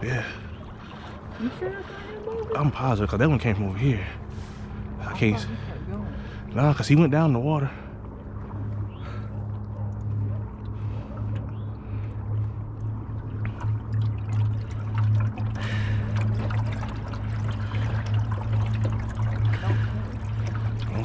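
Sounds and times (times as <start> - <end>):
boat motor running: 0.0 - 21.0
water splashing along hull: 0.0 - 21.0.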